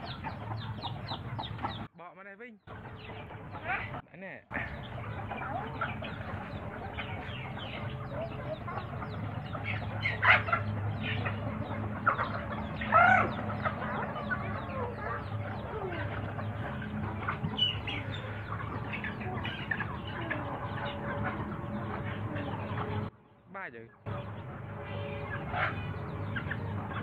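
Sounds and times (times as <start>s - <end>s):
chickens clucking: 0.0s - 2.0s, 2.7s - 27.0s.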